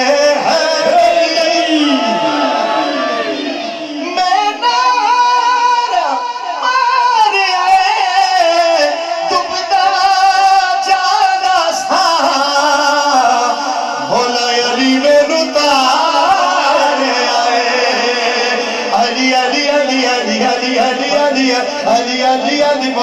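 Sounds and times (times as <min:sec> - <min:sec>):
man singing devotional song: 0:00.0 - 0:02.9, 0:03.7 - 0:23.0.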